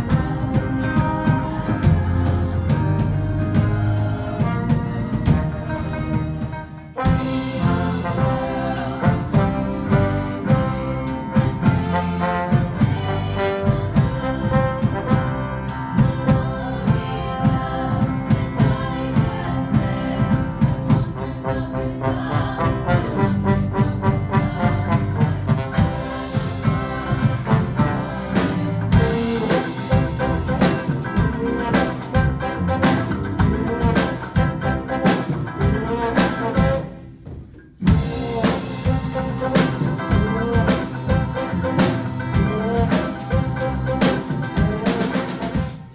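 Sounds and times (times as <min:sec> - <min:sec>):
voices singing: 0:00.0 - 0:06.4, 0:07.2 - 0:37.0, 0:37.8 - 0:45.9
church band playing: 0:00.0 - 0:45.9.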